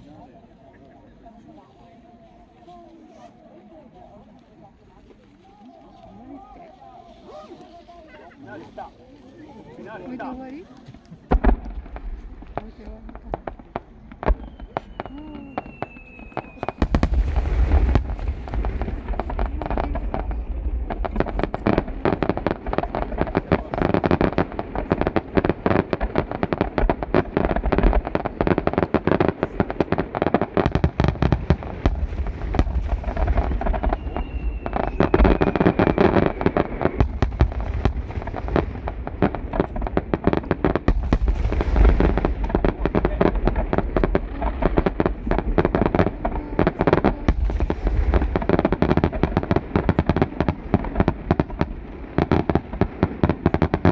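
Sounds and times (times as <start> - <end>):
fireworks bursting and crackling: 3.9 - 53.9.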